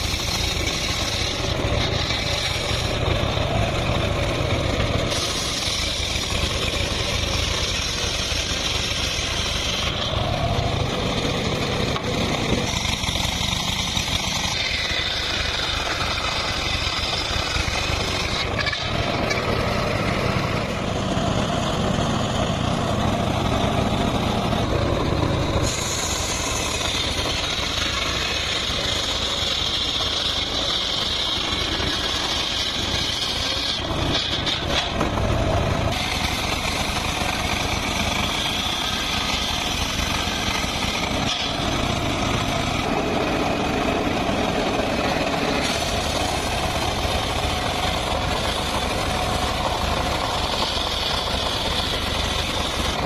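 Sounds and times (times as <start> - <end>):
high saw blade whine: 0.0 - 53.0
sawmill machine drone: 0.0 - 53.0.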